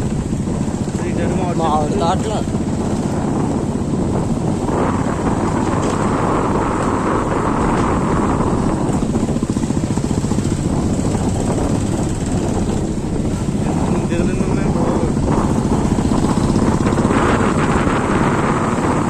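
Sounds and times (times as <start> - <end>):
road noise: 0.0 - 19.0
vehicle engine running: 0.0 - 19.0
wind noise on microphone: 0.0 - 19.0.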